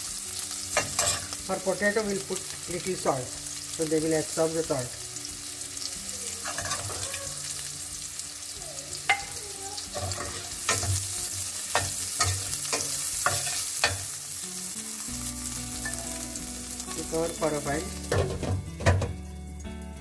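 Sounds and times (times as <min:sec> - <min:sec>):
potatoes sizzling in a pan: 0:00.0 - 0:20.0.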